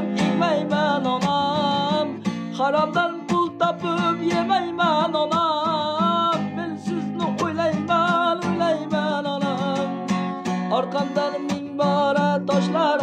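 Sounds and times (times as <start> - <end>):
man singing with vibrato: 0.0 - 13.0
strummed acoustic guitar: 0.0 - 13.0.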